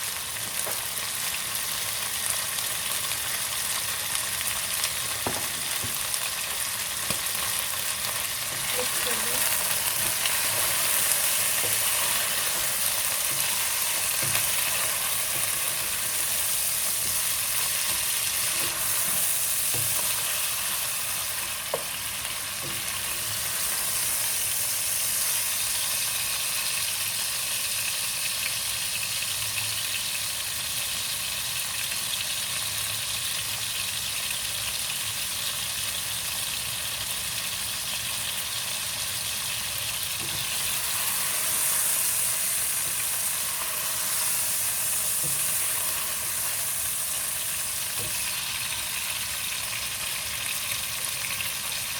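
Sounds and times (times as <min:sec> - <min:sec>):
chicken and onions sizzling in oil: 0:00.0 - 0:51.9.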